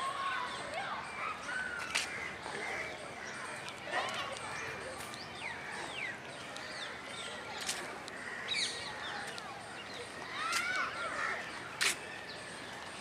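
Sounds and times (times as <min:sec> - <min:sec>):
birds calling and chirping: 0:00.0 - 0:13.0.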